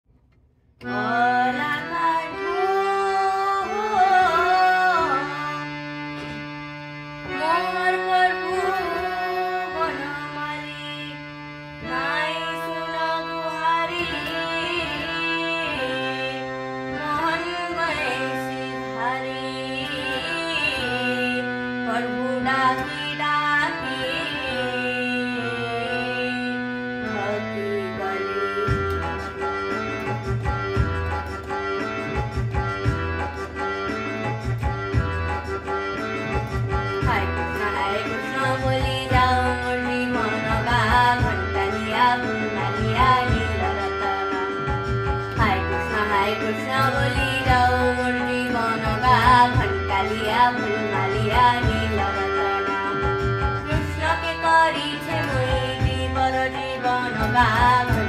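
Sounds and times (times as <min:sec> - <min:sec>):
electronic keyboard melody: 0:00.8 - 0:58.0
tabla-style rhythm accompaniment: 0:00.8 - 0:58.0.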